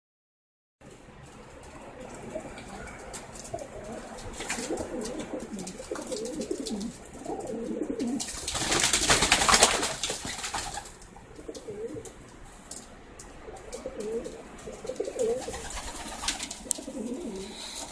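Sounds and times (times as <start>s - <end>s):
pigeon splashing and wing-flapping: 1.2s - 12.9s, 13.5s - 17.9s
pigeons cooing: 1.7s - 12.6s, 13.4s - 17.9s.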